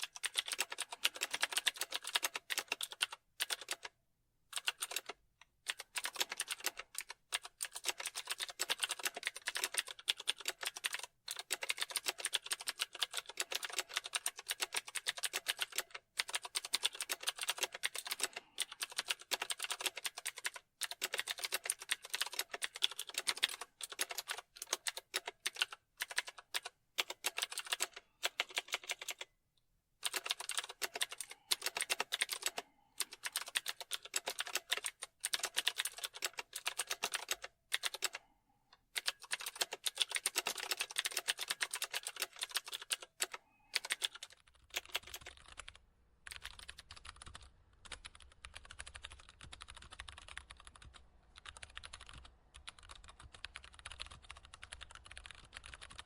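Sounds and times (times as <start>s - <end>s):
keyboard typing: 0.0s - 29.3s, 30.0s - 56.0s.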